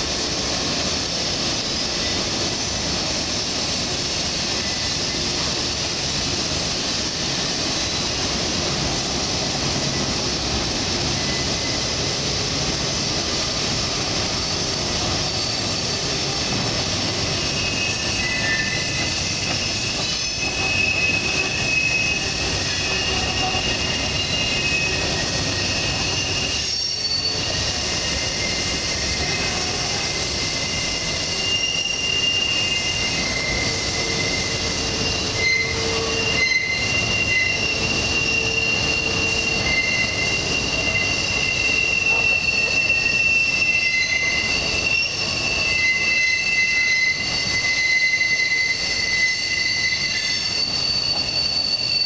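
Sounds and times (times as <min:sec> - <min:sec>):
wheels rumbling on rail: 0:00.0 - 0:52.0
wheel flange squeal: 0:03.8 - 0:08.6, 0:11.0 - 0:12.7, 0:13.6 - 0:52.0.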